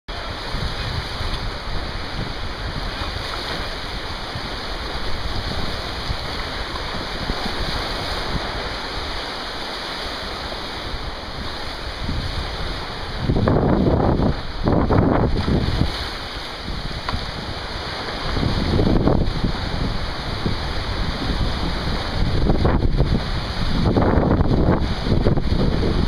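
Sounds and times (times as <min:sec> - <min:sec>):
wind buffeting microphone: 0:00.2 - 0:26.0.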